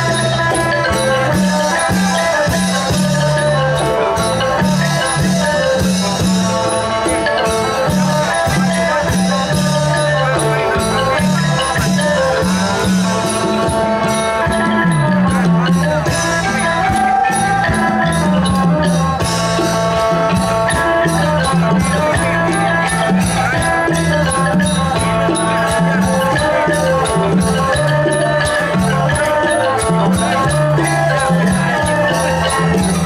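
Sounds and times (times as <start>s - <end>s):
folk band over loudspeakers: 0.0s - 33.0s
rattling percussion: 0.0s - 33.0s.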